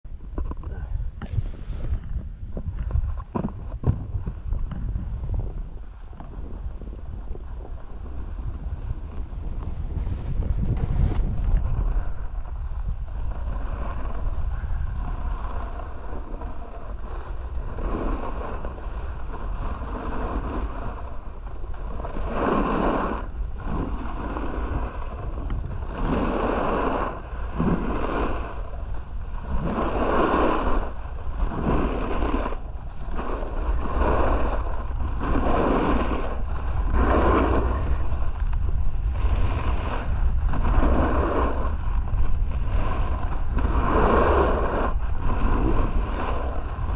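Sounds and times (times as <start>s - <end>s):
wind buffeting microphone: 0.0s - 46.9s
snowboard edge scraping snow: 1.3s - 6.6s, 7.2s - 46.9s.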